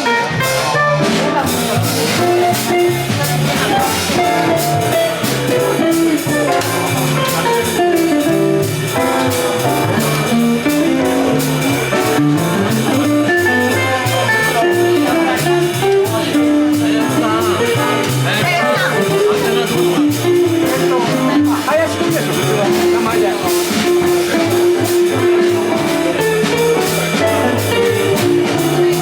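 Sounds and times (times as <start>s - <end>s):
live jazz band playing: 0.0s - 29.0s
walking bass line: 0.0s - 29.0s.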